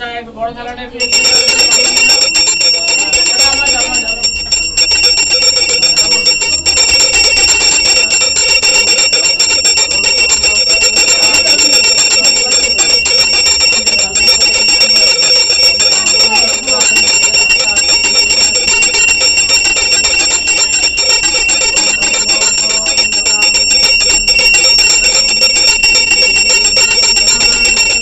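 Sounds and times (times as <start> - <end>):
hand bell ringing rapidly: 1.0 - 28.0.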